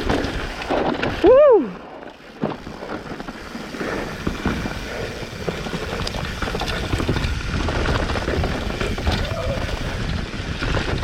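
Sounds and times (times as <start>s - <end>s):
bike clattering over rocks: 0.0s - 11.0s
wind rumbling on microphone: 0.0s - 11.0s.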